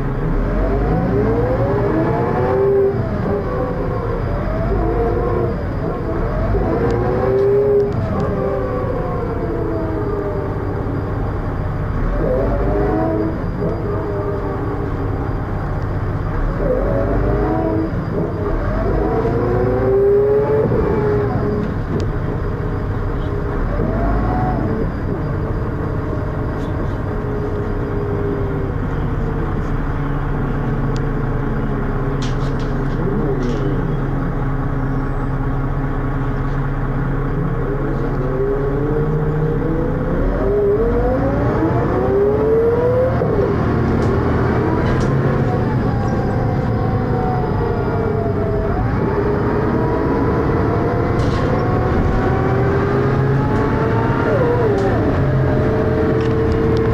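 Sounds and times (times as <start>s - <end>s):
bus diesel engine drone: 0.0s - 56.9s
gearbox whine: 0.0s - 56.9s.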